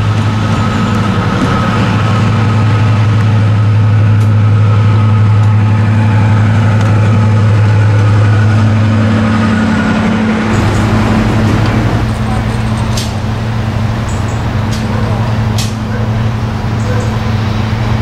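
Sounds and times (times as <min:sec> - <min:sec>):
diesel locomotive drone: 0:00.0 - 0:18.0
high whine: 0:00.0 - 0:18.0.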